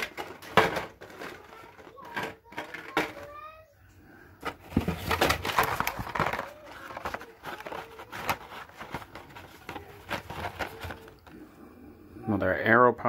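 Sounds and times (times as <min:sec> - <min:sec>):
card and plastic packaging clacking: 0:00.0 - 0:03.5, 0:04.4 - 0:11.4.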